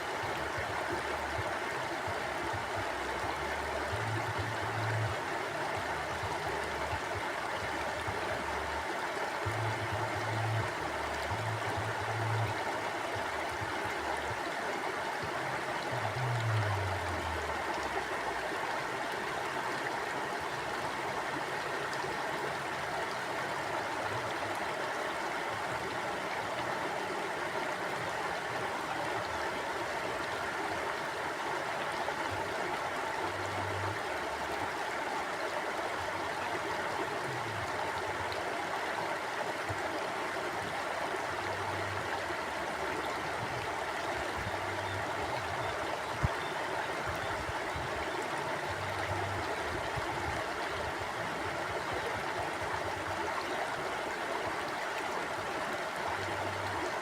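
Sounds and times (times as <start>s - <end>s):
mountain stream flowing: 0.0s - 57.0s.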